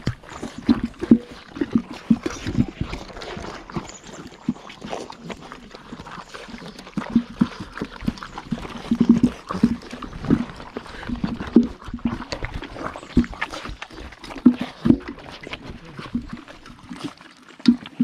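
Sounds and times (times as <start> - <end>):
puppies chewing and slurping: 0.0 - 18.0.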